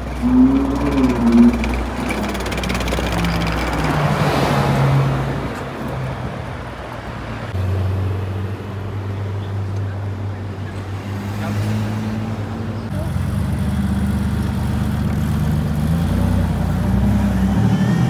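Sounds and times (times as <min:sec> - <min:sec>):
low car engine drone: 0:00.0 - 0:10.8, 0:12.3 - 0:18.0.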